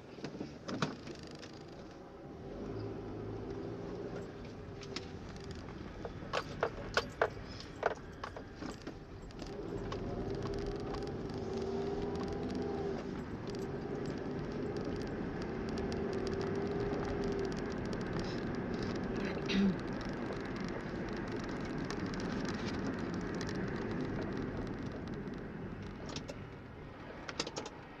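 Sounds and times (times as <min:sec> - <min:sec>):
car engine and road noise: 0:00.0 - 0:28.0
sharp clicks and jingles: 0:03.6 - 0:26.6.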